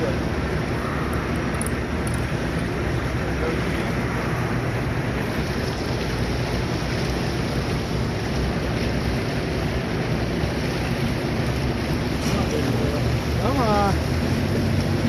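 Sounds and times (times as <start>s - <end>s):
low hum: 0.0s - 13.4s
river current rushing: 0.0s - 15.0s.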